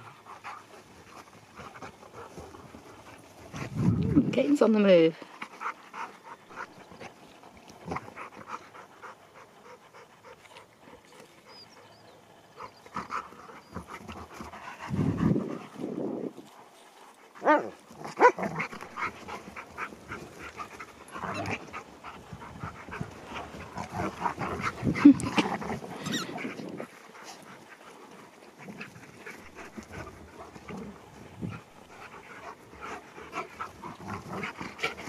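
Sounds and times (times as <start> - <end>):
dogs panting: 0.0 - 35.0
dog vocal sounds: 5.4 - 15.8, 17.4 - 35.0.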